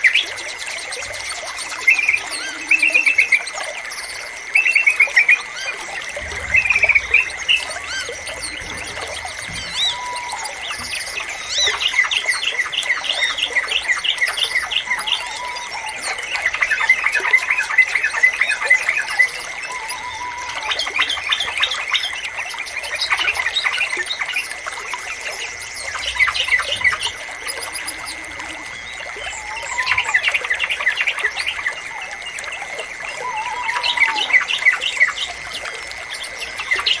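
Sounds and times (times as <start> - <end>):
bulbuls chirping: 0.0 - 37.0.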